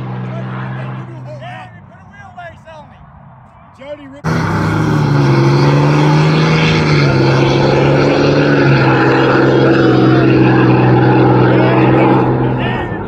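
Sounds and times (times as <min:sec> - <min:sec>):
engines accelerating hard: 0:00.0 - 0:01.8, 0:04.2 - 0:13.0.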